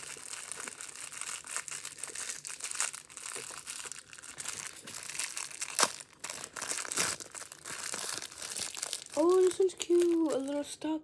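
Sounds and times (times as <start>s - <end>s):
packaging crinkling and tearing: 0.0s - 10.7s.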